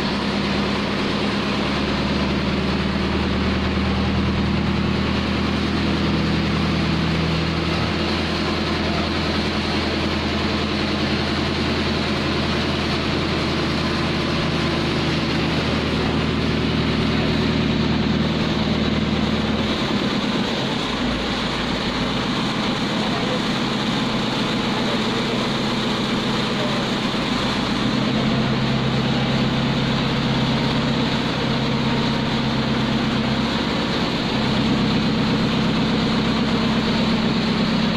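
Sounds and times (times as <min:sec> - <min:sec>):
diesel crane engine running: 0:00.0 - 0:37.9.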